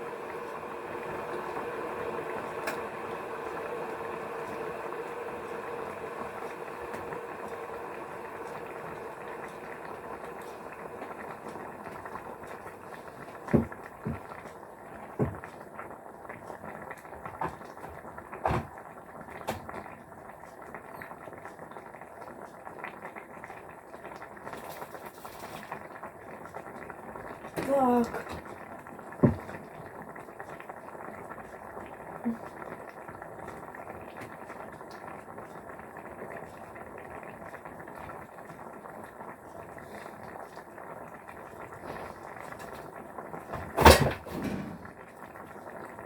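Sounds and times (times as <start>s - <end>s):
hot water bubbling: 0.0s - 43.8s, 44.8s - 46.0s.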